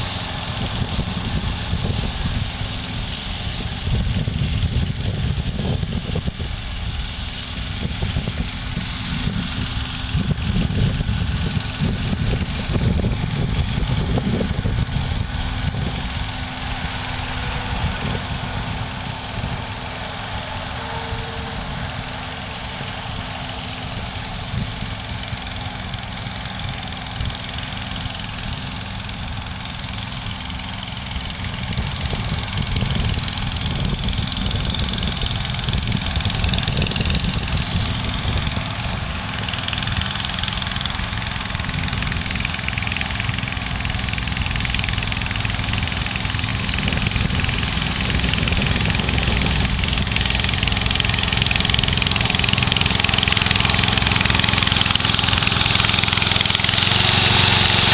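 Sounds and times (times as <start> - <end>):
mower engine cutting grass: 0.0 - 57.9.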